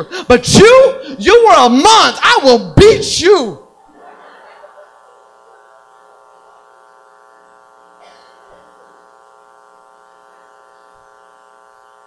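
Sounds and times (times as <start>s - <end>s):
electrical buzz: 0.0s - 12.0s.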